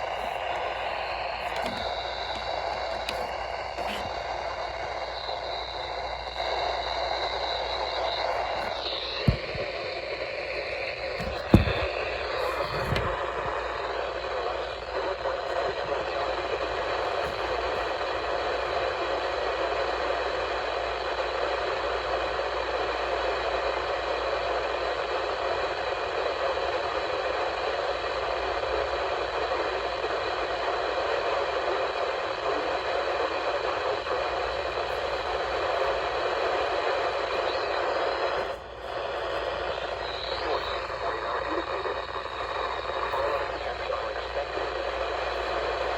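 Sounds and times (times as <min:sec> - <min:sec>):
radio static hiss: 0:00.0 - 0:45.9.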